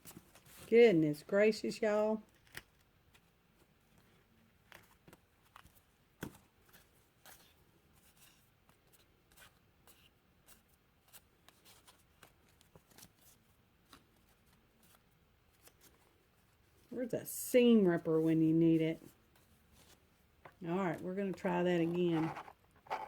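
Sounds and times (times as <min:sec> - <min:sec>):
paper and thread rustling: 0:00.0 - 0:00.8, 0:02.2 - 0:23.0.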